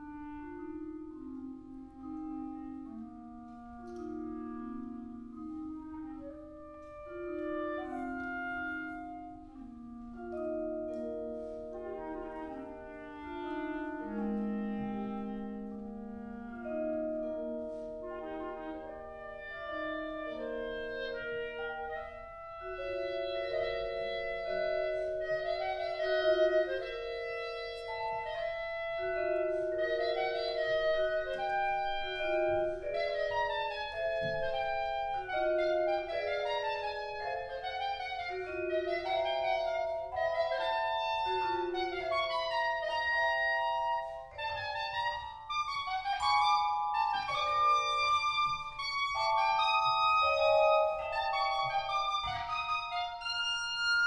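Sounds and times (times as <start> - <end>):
clarinet melody: 0.0 - 54.0.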